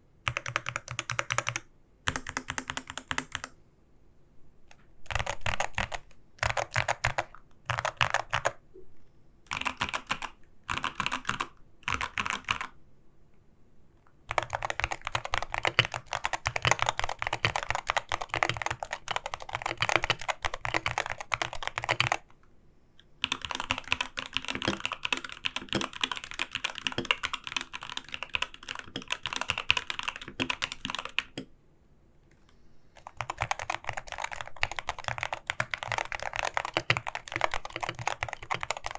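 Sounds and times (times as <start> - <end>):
keyboard typing: 0.2 - 3.6, 4.8 - 8.6, 9.5 - 12.8, 14.3 - 22.3, 23.2 - 31.5, 32.3 - 38.9.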